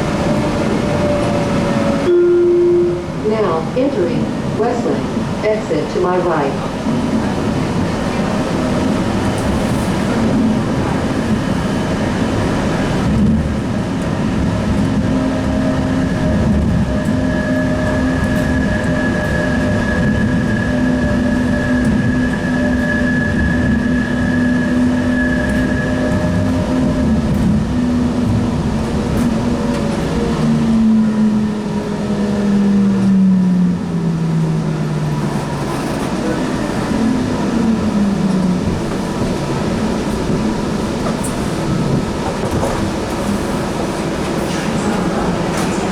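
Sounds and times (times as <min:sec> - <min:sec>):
train wheels rumbling: 0:02.9 - 0:45.9.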